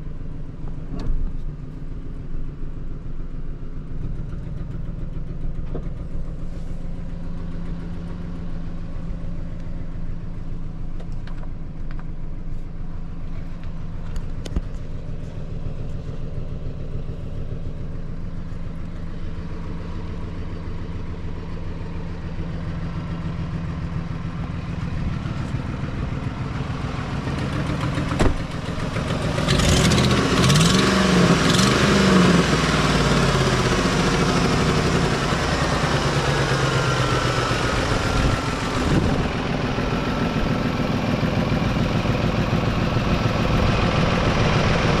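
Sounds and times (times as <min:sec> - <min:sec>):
pickup engine idling: 0:00.0 - 0:45.0.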